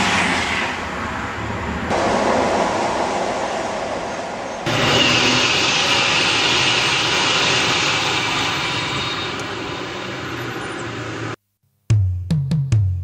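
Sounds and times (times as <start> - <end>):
train passing at speed: 0.0 - 11.4.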